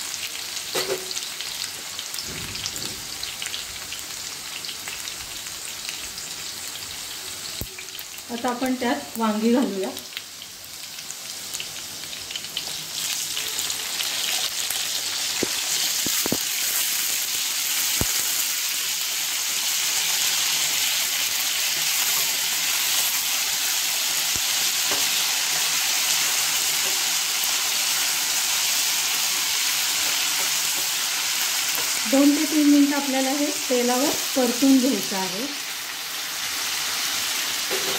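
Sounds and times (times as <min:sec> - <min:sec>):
vegetables sizzling in hot oil: 0:00.0 - 0:37.9.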